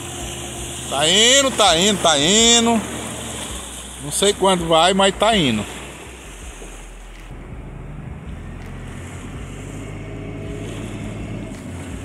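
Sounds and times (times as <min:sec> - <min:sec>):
diesel tractor engine labouring: 0:00.0 - 0:12.0.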